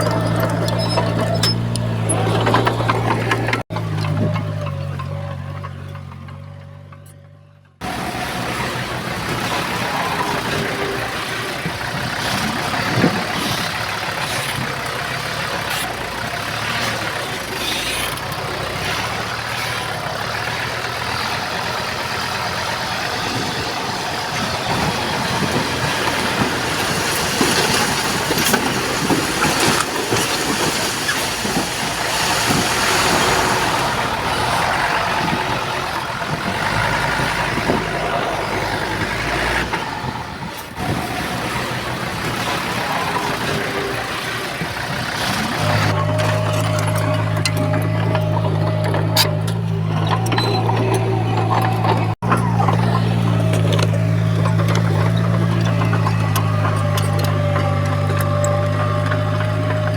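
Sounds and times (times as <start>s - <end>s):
heavy machinery diesel engines: 0.0s - 59.9s.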